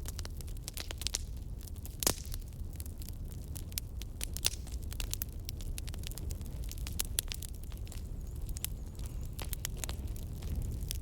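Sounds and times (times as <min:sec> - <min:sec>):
fire crackling with pops: 0:00.0 - 0:11.0.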